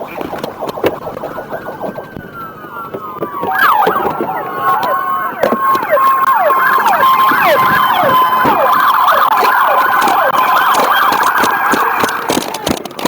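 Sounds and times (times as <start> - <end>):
police siren sweeping down: 0.0 - 12.6
police siren warbling rapidly: 0.0 - 12.6.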